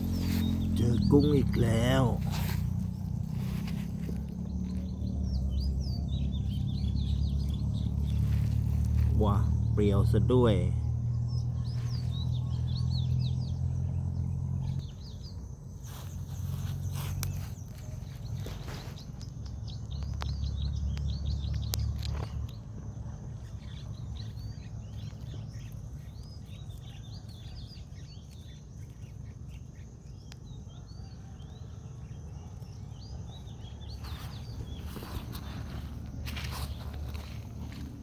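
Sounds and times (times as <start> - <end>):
low steady rumble: 0.0 - 29.6, 31.9 - 38.0
small birds chirping: 0.0 - 38.0.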